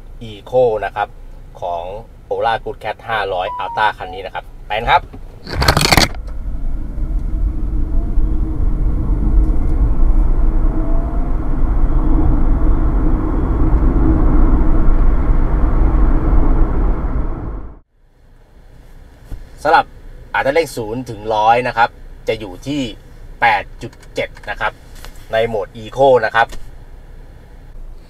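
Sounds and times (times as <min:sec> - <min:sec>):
road and tyre rumble: 0:00.0 - 0:28.0.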